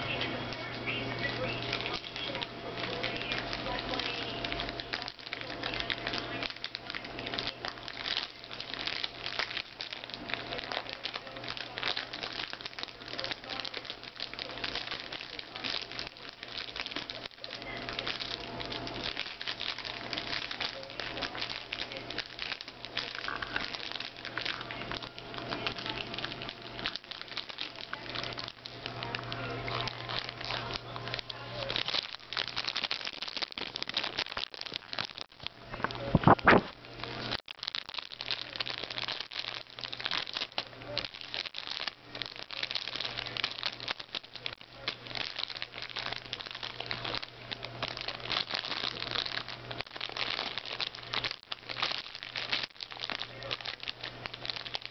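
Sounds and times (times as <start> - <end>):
foil bag crinkling: 0.0 - 54.9
steady low hum: 0.0 - 54.9.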